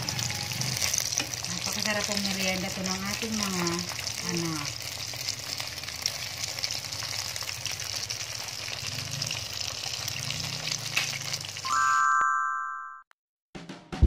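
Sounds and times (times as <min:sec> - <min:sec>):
hot oil sizzling: 0:00.0 - 0:11.8.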